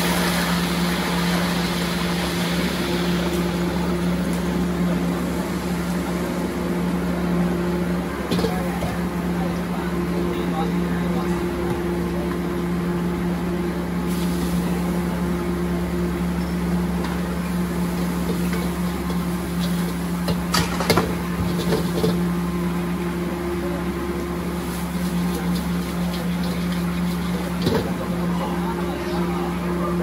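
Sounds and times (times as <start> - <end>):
gas burner roaring: 0.0 - 30.0.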